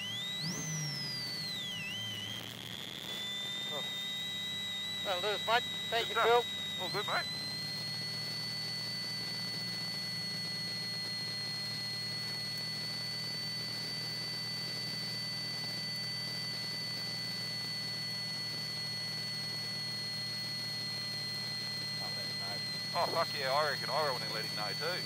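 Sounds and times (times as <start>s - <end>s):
high-pitched electronic whine: 0.0s - 25.0s.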